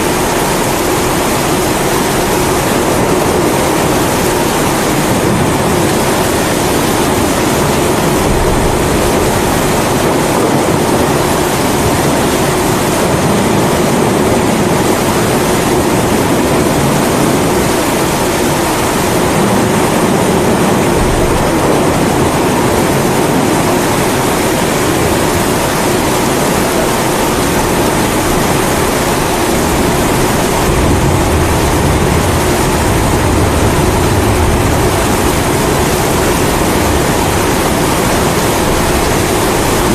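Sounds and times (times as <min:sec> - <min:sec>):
rain falling: 0:00.0 - 0:39.9
thunder rumbling: 0:00.0 - 0:39.9.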